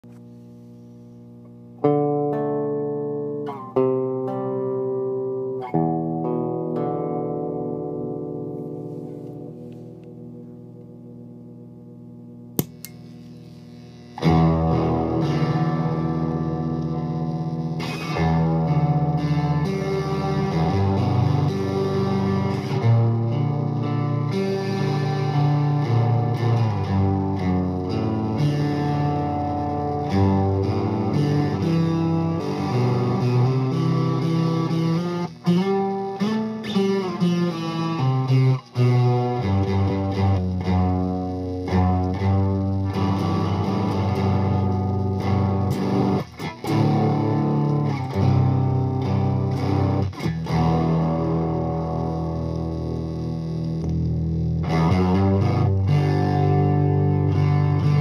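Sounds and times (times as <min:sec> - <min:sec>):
electric guitar chords: 0:00.0 - 0:58.0.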